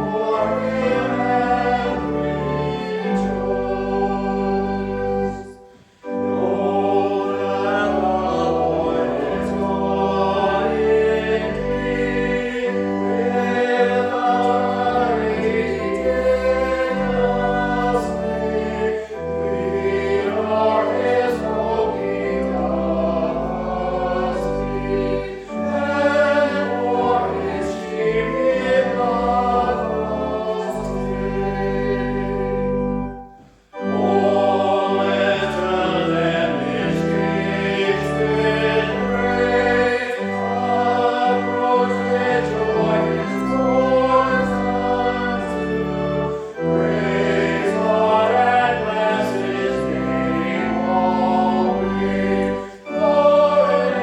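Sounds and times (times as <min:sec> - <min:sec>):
choir singing a hymn: 0:00.0 - 0:54.0
organ: 0:00.0 - 0:54.0.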